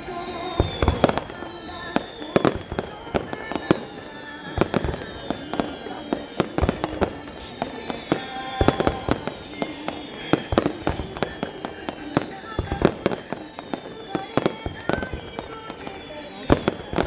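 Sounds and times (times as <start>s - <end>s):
fireworks bursting with sharp bangs: 0.0s - 17.0s
music playing: 0.0s - 17.0s.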